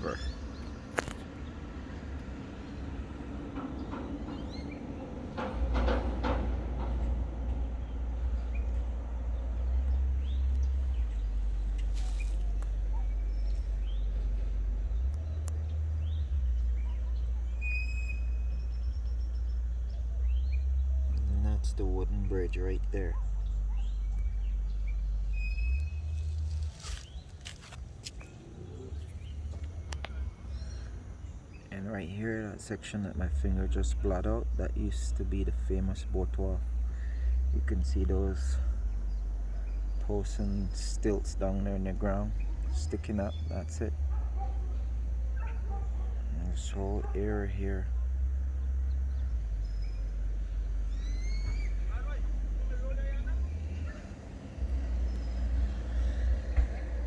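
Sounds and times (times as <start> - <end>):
steady low rumble: 0.0 - 57.0
faint bird chirps: 7.8 - 27.4, 28.2 - 56.6.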